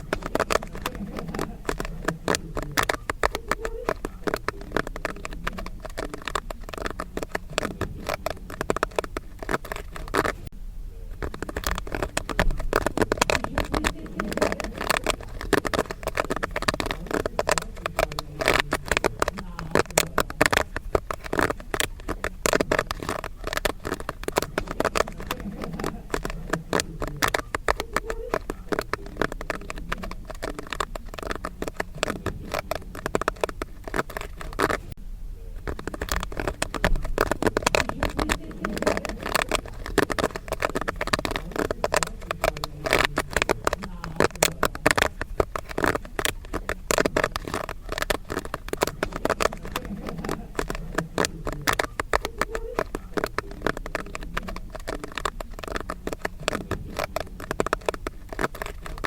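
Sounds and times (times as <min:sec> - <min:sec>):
popcorn popping: 0:00.0 - 0:59.0.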